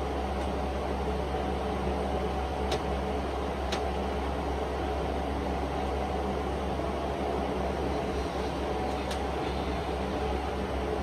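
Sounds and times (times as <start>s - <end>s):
steady hum and hiss: 0.0s - 11.0s.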